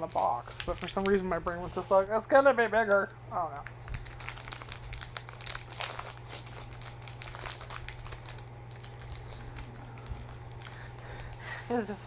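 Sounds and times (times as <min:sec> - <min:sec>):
plastic wrapper crinkling: 0:00.0 - 0:02.1, 0:02.8 - 0:11.9
steady low hum: 0:00.0 - 0:12.0.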